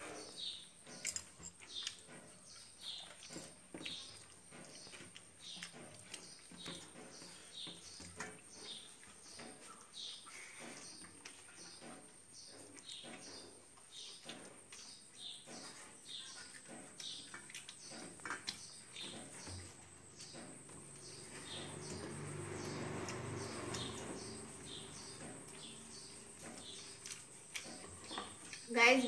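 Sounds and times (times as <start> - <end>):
small bird chirping: 0.0 - 29.0.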